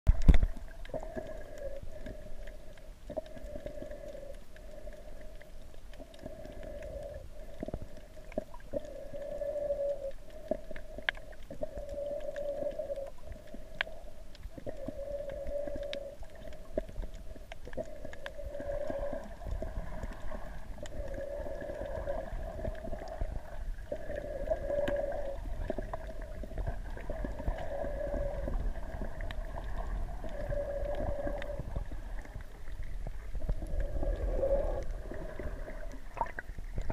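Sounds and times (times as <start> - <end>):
faint clicks: 0.1 - 36.9
low underwater rumble: 0.1 - 36.9
underwater hum: 0.1 - 36.9.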